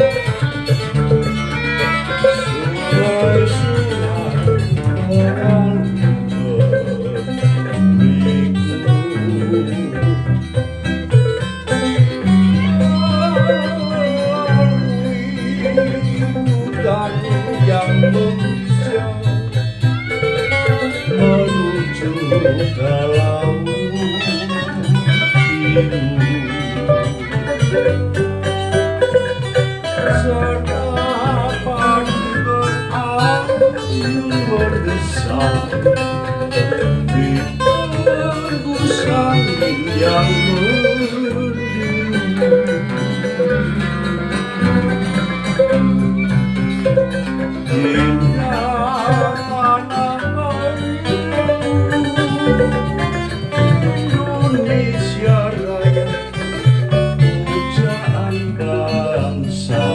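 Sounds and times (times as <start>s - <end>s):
finger-plucked cello: 0.0s - 59.9s
low bass notes: 0.0s - 59.9s
man singing with vibrato: 0.0s - 59.9s
small strummed string instruments: 0.0s - 59.9s.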